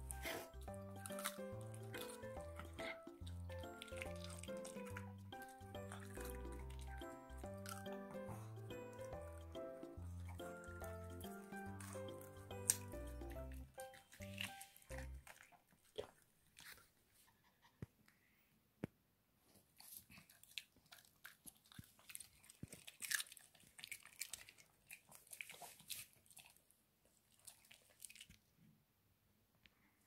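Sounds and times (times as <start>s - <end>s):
dog crunching cucumber: 0.0s - 9.3s, 10.0s - 16.9s, 19.8s - 28.5s.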